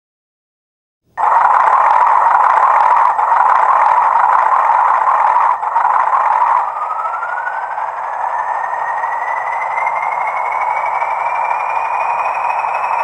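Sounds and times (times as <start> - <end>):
hissing locomotive engine: 1.2 - 13.0
whistle rising in pitch: 1.2 - 13.0.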